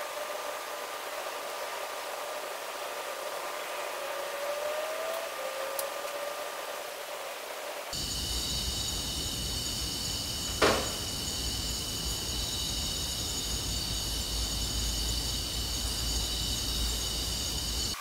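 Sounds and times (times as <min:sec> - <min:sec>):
crickets chirring: 0:00.0 - 0:18.0
hiss: 0:00.0 - 0:18.0.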